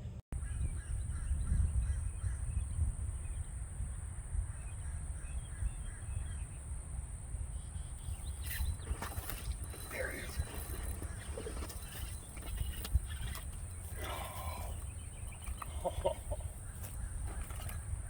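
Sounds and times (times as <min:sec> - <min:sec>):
wind rumble on microphone: 0:00.0 - 0:18.0
faint bird calls: 0:00.4 - 0:18.0.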